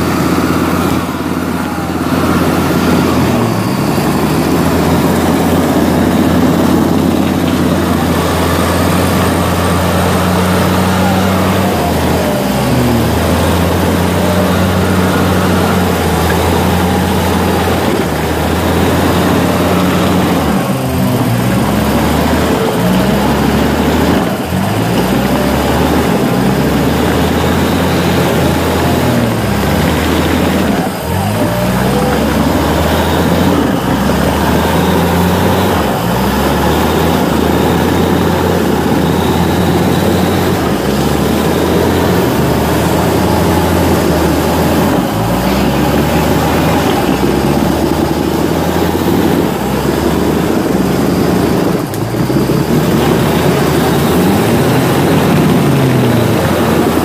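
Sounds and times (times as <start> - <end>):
off-road engine revving: 0.0 - 57.0.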